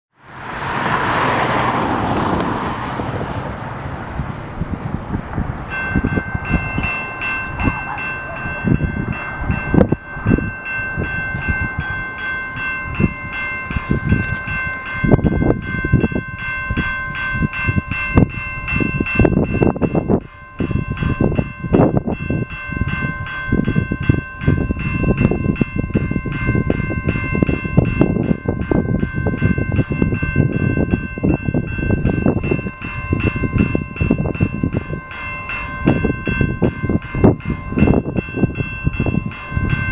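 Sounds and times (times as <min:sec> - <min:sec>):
steady high ringing: 0:05.7 - 0:39.9.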